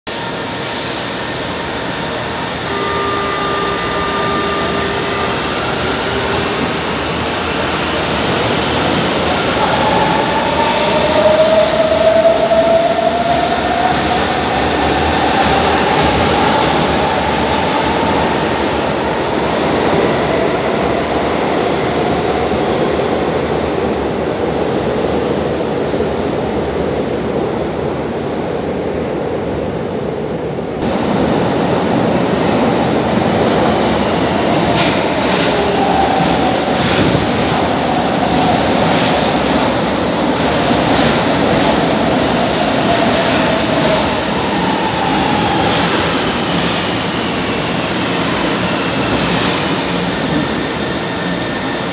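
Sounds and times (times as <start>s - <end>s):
train wheel and rail rumble: 0.1s - 51.9s.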